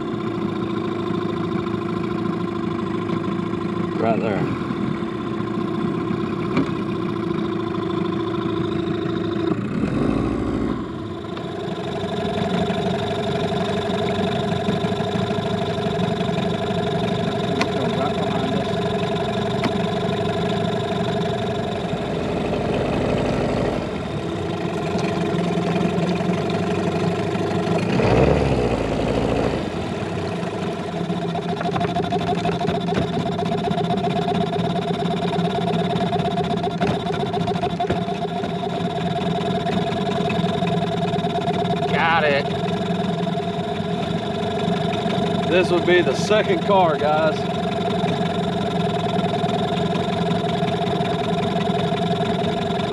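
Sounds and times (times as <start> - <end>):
boat motor running: 0.0 - 52.9.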